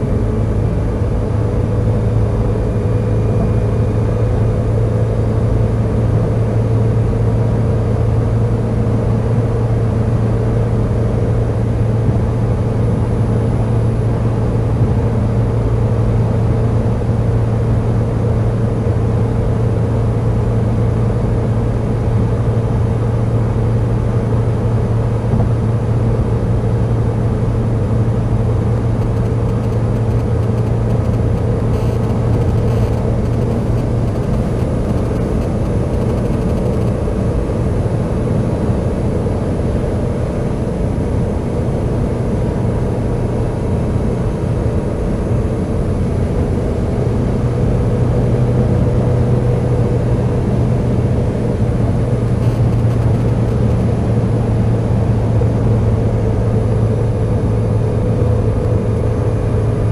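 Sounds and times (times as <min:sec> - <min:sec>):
car engine and tyre drone: 0:00.0 - 0:59.9.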